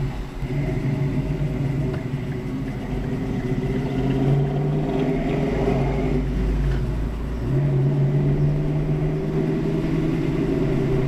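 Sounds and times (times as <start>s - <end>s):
loud car exhaust rumble: 0.0s - 11.0s.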